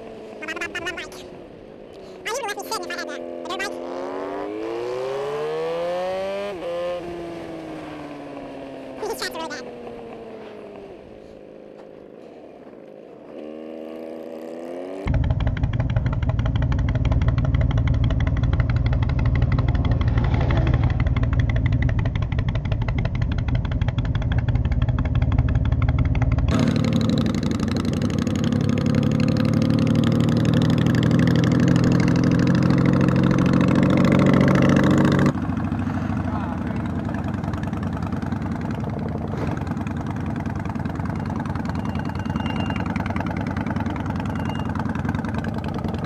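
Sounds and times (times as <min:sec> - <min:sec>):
motorcycle engine running: 0:02.6 - 0:46.0.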